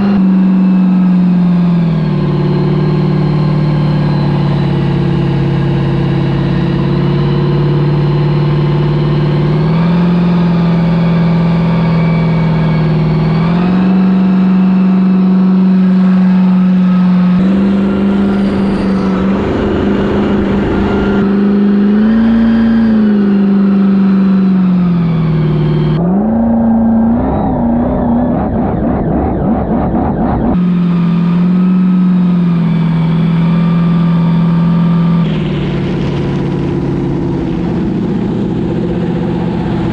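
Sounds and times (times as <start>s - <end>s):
jet ski engine revving: 0.0s - 39.9s.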